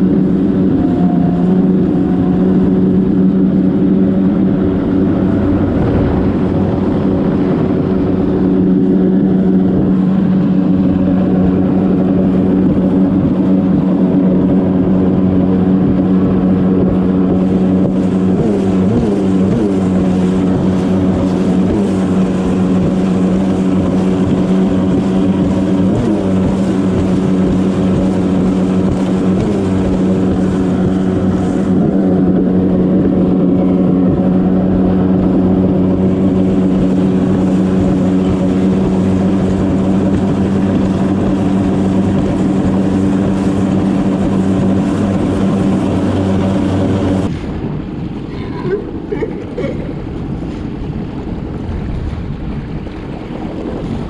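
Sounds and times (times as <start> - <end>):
watercraft engine running: 0.0 - 54.0.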